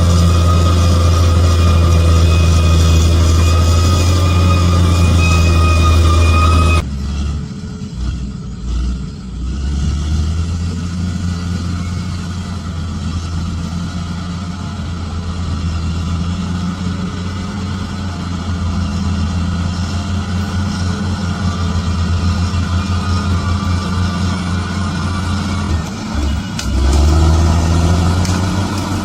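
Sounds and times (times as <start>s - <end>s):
bulldozer diesel engine running: 0.0s - 29.0s
higher-pitched engine sound: 0.0s - 29.0s.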